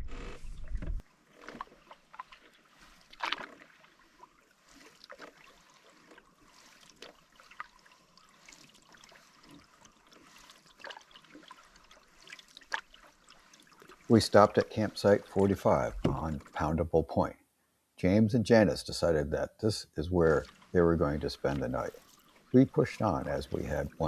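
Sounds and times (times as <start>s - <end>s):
paddle splashing in water: 0.0s - 16.8s, 20.2s - 24.0s.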